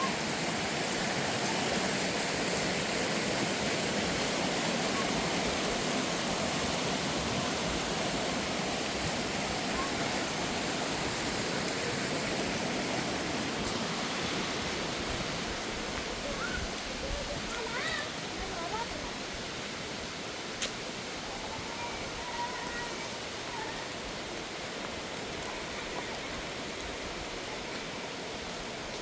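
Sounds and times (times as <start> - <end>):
flowing water rushing: 0.0 - 29.0.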